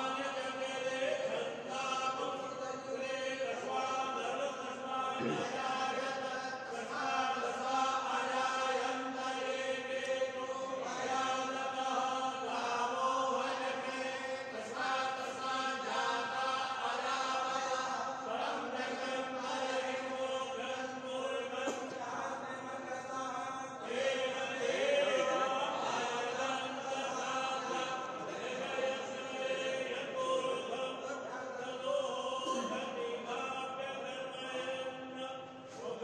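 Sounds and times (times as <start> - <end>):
men chanting together: 0.0 - 36.0.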